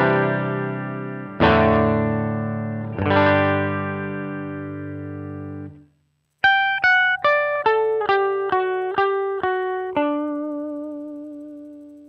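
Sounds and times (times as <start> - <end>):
electric guitar chords strummed: 0.0 - 5.8, 6.4 - 12.0
electric guitar single picked notes: 0.0 - 5.8, 6.4 - 12.0.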